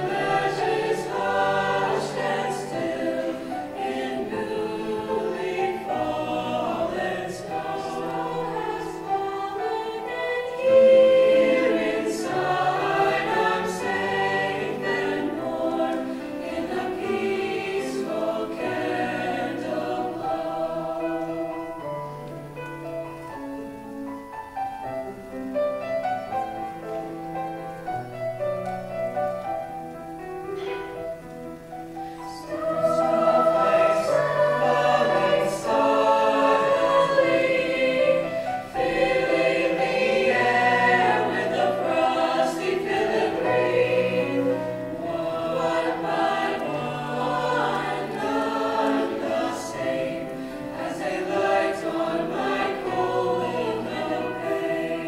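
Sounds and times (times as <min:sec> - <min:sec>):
choir singing: 0:00.0 - 0:24.0, 0:30.5 - 0:55.0.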